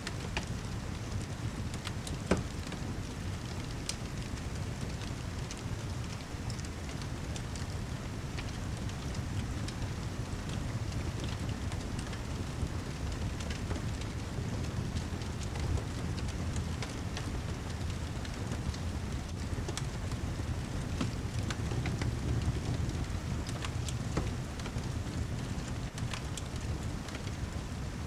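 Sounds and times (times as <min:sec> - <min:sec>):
fireplace crackling: 0:00.0 - 0:28.0
steady rainfall: 0:00.0 - 0:28.0.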